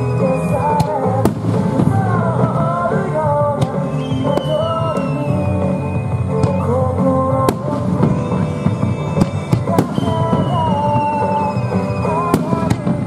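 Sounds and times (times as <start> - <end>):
firework bangs: 0.0 - 13.0
music with held melody: 0.0 - 13.0.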